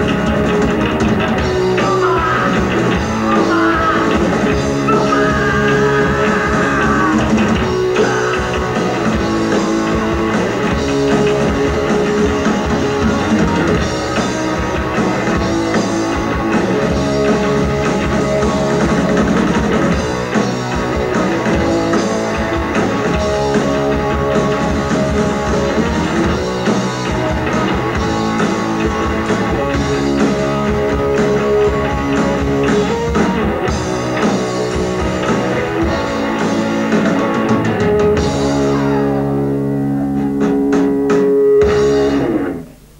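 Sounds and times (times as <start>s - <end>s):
bass guitar: 0.0s - 42.9s
drum kit: 0.0s - 42.9s
electric guitars: 0.0s - 42.9s.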